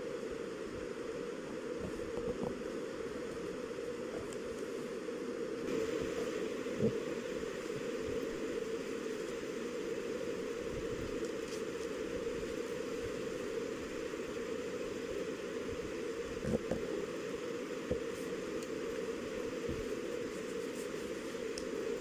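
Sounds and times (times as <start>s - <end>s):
background hiss and hum: 0.0s - 22.0s.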